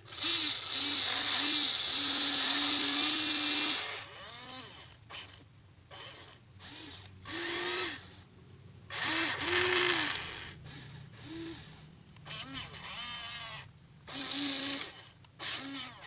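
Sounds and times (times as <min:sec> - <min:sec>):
small electric motors whining: 0:00.0 - 0:08.3, 0:08.9 - 0:16.0.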